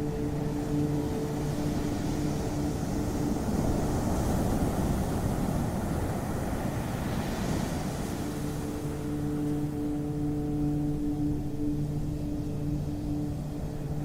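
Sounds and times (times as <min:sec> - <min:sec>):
low steady hum: 0:00.0 - 0:14.0
ocean waves washing ashore: 0:00.0 - 0:14.0.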